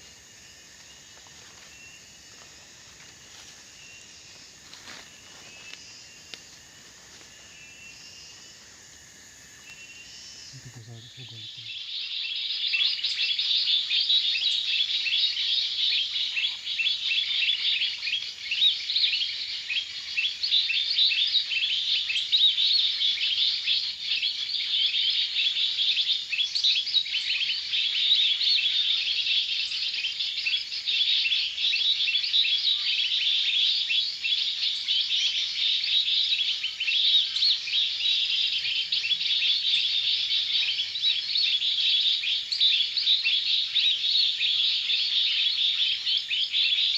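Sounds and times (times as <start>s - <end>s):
small birds chirping and twittering: 0.0s - 46.9s.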